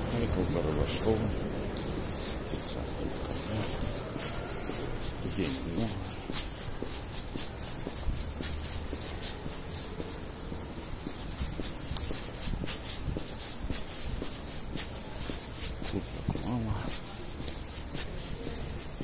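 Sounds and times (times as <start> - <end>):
footsteps on wet concrete: 0.0 - 19.0.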